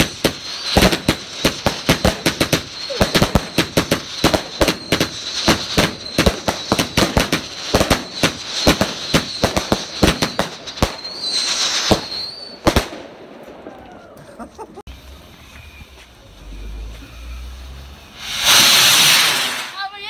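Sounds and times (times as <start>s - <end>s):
fireworks hiss: 0.0s - 12.9s, 14.9s - 20.0s
fireworks bangs and crackles: 0.0s - 20.0s.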